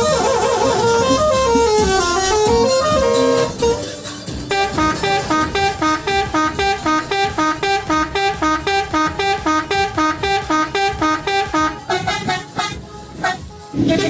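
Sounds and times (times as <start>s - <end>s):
multi-tone horn two-note toots: 0.0s - 3.9s, 4.5s - 13.8s.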